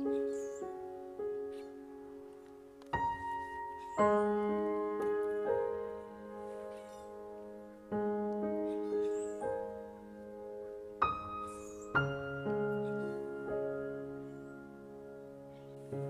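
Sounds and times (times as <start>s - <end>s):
soft slow piano chords: 0.0s - 16.0s.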